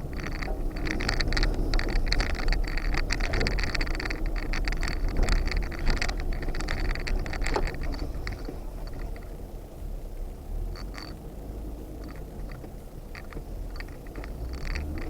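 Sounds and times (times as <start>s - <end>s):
clicks and scrapes: 0.0s - 9.3s, 10.8s - 11.2s, 12.0s - 15.0s
low engine rumble: 0.0s - 15.0s.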